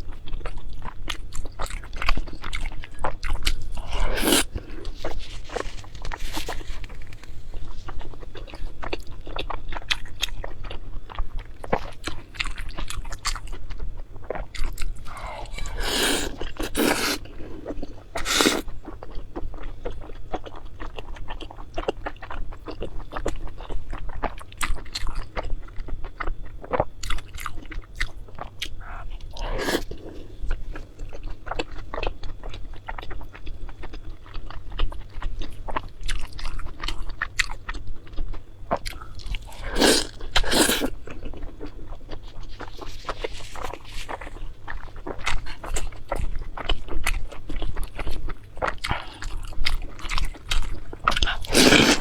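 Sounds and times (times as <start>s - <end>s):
chewing crunchy food: 0.0s - 52.0s.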